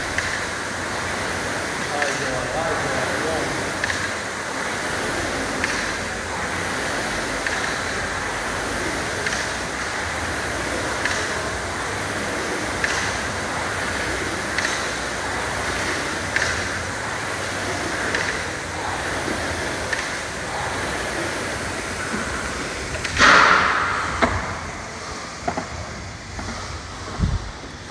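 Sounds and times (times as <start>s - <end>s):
rowing machine click: 0.0s - 27.9s
rowing machine fan whirring: 0.0s - 27.9s.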